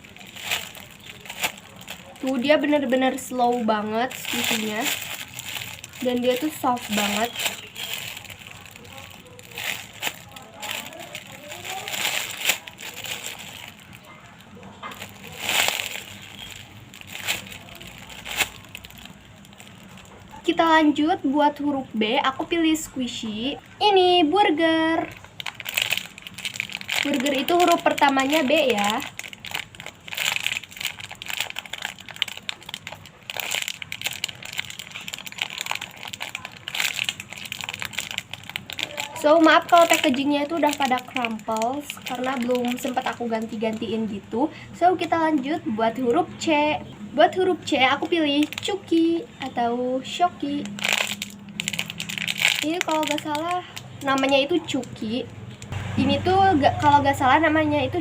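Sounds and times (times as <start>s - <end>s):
foam toy crinkling rustles: 0.0s - 21.1s, 24.6s - 44.2s, 47.9s - 49.5s, 50.4s - 55.7s
steady background noise: 0.0s - 58.0s.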